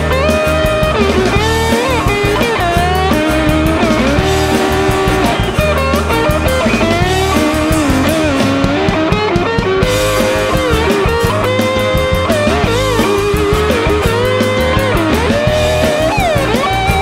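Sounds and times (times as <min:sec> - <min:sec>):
bass guitar: 0:00.0 - 0:17.0
electric lead guitar: 0:00.0 - 0:17.0
steady drum beat: 0:00.0 - 0:17.0.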